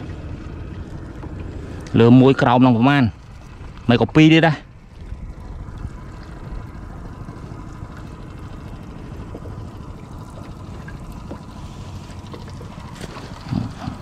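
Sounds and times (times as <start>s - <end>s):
water lapping against boat: 0.0s - 14.0s
wind rumbling on microphone: 0.0s - 14.0s.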